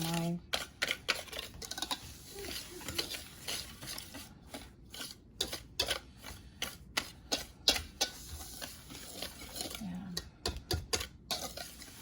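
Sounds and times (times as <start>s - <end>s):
whisk scraping a bowl: 0.0s - 12.0s.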